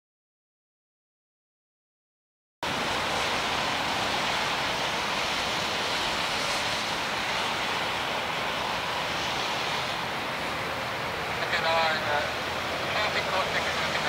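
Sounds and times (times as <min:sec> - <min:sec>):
jet engines rushing: 0:02.6 - 0:14.0.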